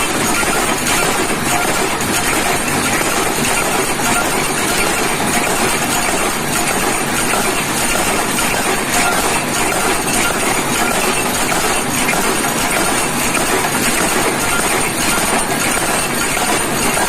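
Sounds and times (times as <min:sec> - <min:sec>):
workshop machinery running: 0:00.0 - 0:17.0.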